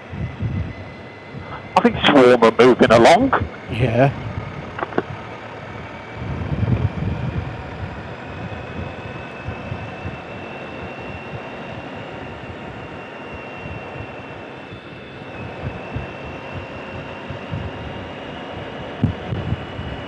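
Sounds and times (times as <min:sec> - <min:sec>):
wind noise: 0:00.0 - 0:14.2, 0:15.3 - 0:20.0
faint high whine: 0:00.0 - 0:20.0
motorcycle engine rumble: 0:00.0 - 0:20.0.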